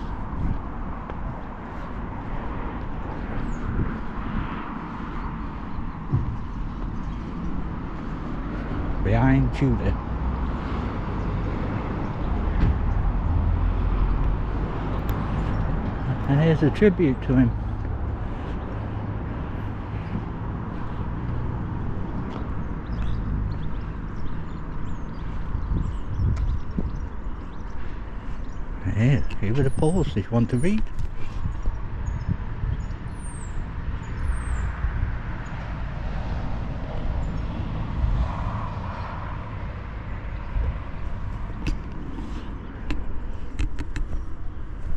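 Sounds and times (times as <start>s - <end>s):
road traffic rumble: 0.0s - 44.9s
vehicle passing: 0.0s - 44.9s.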